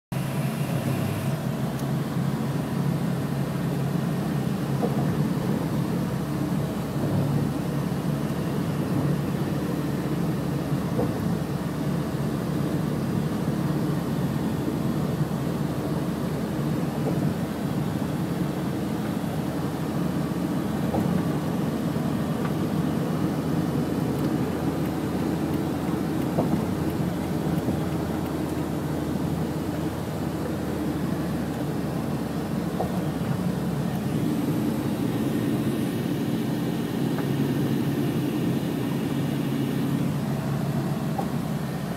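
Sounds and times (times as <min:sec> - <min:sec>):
vehicle engine and tyre rumble: 0:00.1 - 0:41.9.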